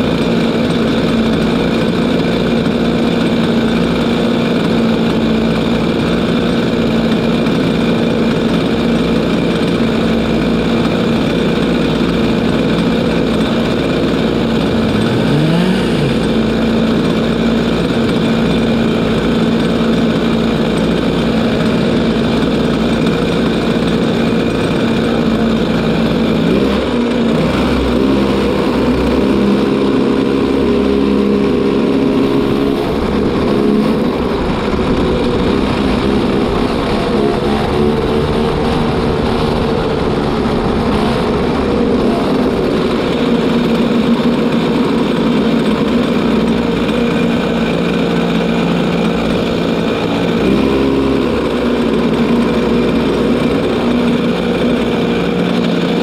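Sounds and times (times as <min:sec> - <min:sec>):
kart engine idling: 0:00.0 - 0:56.0.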